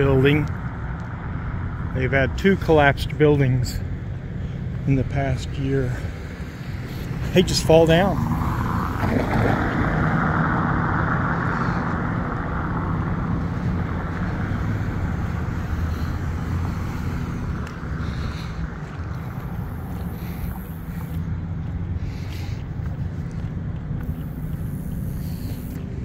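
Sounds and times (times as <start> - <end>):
car tyre noise passing: 0.0 - 26.0
steady low rumble: 0.0 - 26.0.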